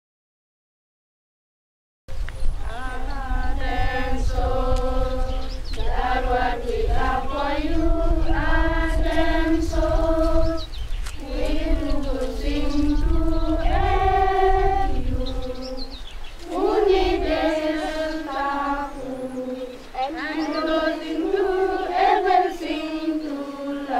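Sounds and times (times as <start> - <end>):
girls singing unaccompanied: 2.6 - 23.9.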